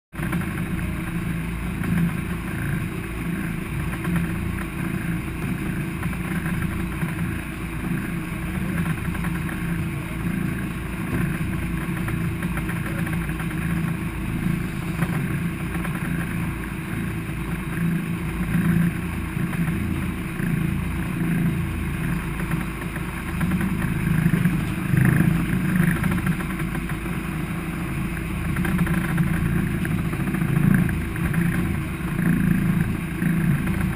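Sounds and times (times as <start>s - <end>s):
boat engine humming: 0.1s - 33.9s.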